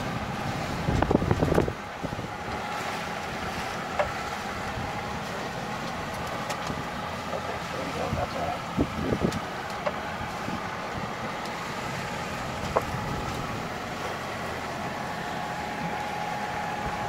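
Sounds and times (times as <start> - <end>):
wind buffeting microphone: 0.0 - 15.0
wind and sea rushing: 0.0 - 17.0.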